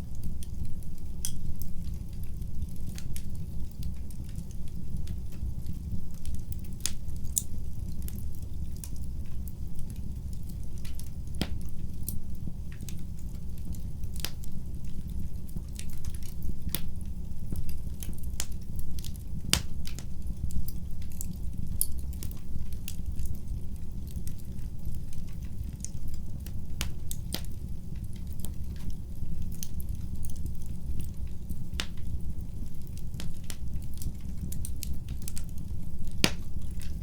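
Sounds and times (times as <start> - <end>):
low rush of flames: 0.0 - 37.0
wood fire crackling: 0.0 - 37.0.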